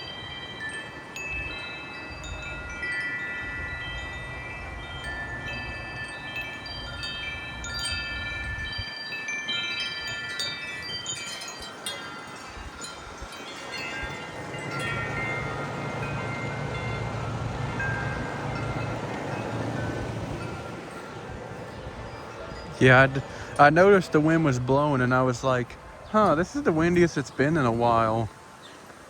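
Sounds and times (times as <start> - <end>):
wind chimes ringing: 0.0 - 29.0
wind rumble on microphone: 0.0 - 29.0.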